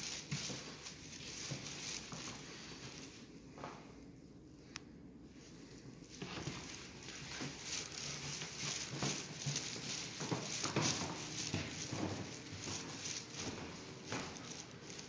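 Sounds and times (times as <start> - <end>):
footsteps on hard floor: 0.0 - 4.0, 5.9 - 15.0.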